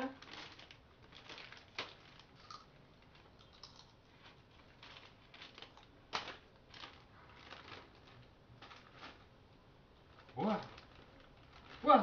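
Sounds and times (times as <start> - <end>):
plastic snack packet crinkling: 0.0 - 9.4, 10.0 - 12.0.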